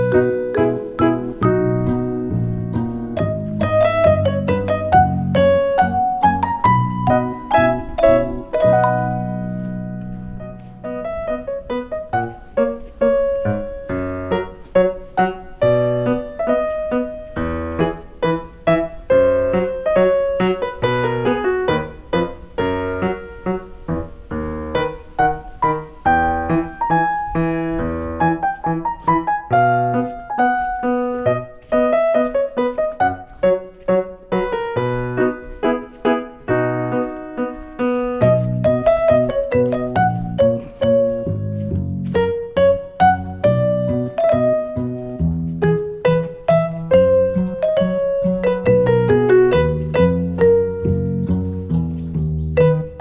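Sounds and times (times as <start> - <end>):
gentle piano melody: 0.0 - 53.0.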